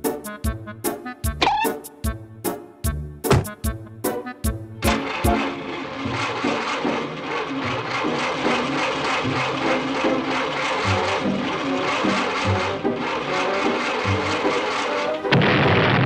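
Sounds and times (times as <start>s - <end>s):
cartoon car engines running: 0.0s - 16.0s.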